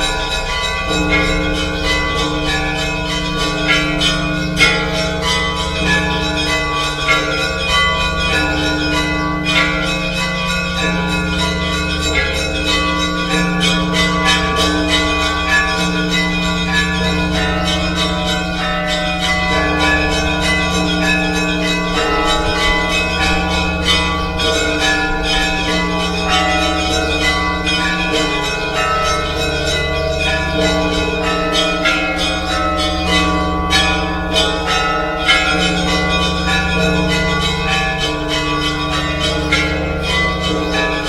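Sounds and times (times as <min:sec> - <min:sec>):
deep low church bells: 0:00.0 - 0:41.0.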